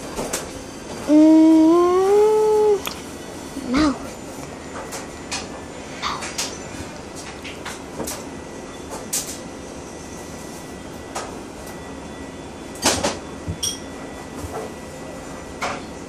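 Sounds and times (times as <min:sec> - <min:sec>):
faint steady hum: 0:00.0 - 0:14.4.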